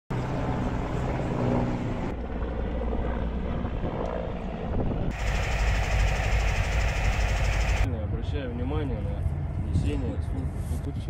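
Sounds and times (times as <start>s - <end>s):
helicopter flying overhead: 0.1s - 10.7s.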